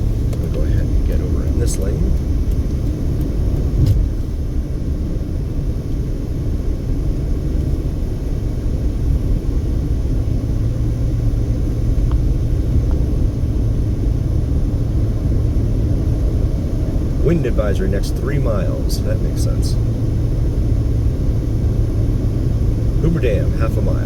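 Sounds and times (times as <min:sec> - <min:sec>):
car road rumble from inside: 0:00.0 - 0:24.0.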